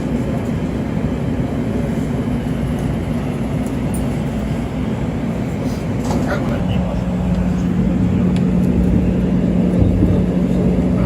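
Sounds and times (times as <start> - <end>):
light-rail train rumbling: 0.0 - 11.0.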